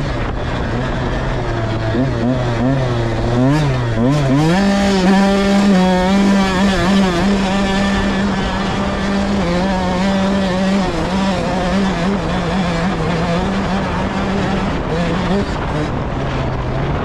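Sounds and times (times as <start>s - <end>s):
off-road vehicle engine running hard: 0.0s - 17.0s
steady rushing noise: 0.0s - 17.0s.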